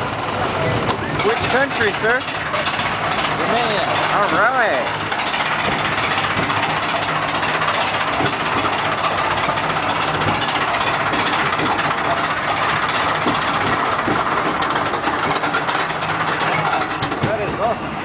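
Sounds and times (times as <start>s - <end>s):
ride machinery humming: 0.0s - 18.0s.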